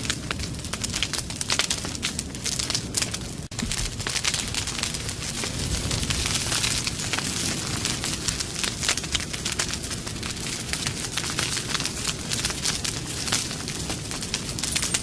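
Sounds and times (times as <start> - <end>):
campfire rumble: 0.0 - 15.0
fire crackling and popping: 0.0 - 15.0.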